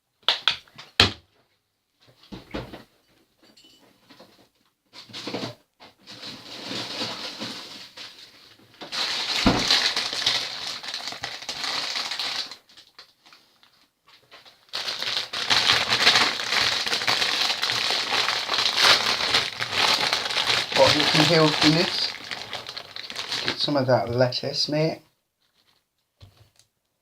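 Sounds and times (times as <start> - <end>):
crinkling and rustling: 3.9 - 24.3, 25.4 - 26.7.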